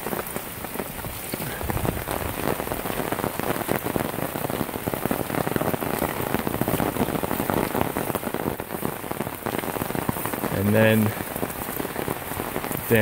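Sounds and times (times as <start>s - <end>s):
rain pattering on pond: 0.0s - 13.0s.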